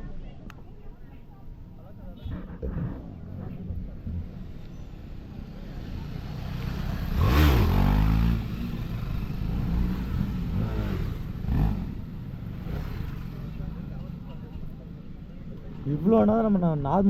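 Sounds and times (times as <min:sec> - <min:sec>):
motorcycle engine accelerating: 0:02.1 - 0:16.0.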